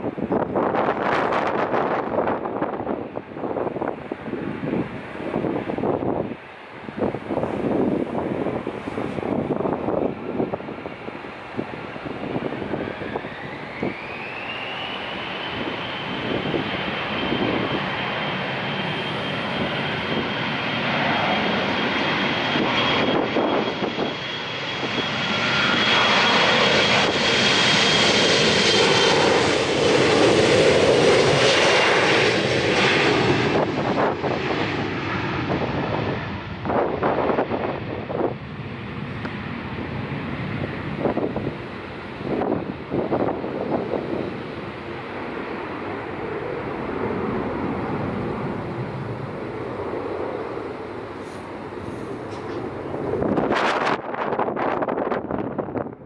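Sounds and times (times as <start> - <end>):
jet engines whining: 0.0 - 56.0
wind buffeting microphone: 0.0 - 56.0.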